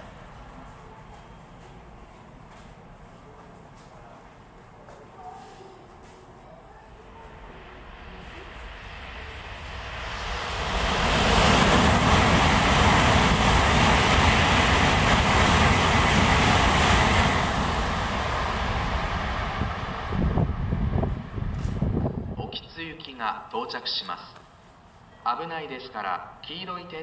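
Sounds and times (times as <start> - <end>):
high-speed train passing: 0.0 - 27.0.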